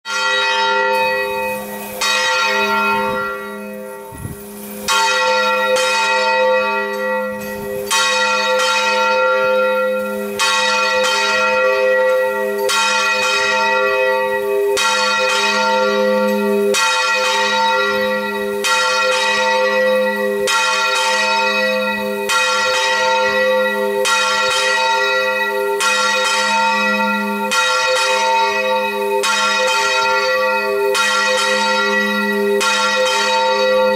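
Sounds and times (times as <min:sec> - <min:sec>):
church bell ringing: 0:00.1 - 0:33.9.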